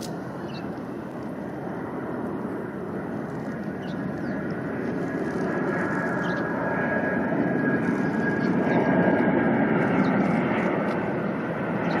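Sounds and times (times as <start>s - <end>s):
jet engine roar: 0.0s - 12.0s
thin jet engine whine: 0.0s - 12.0s.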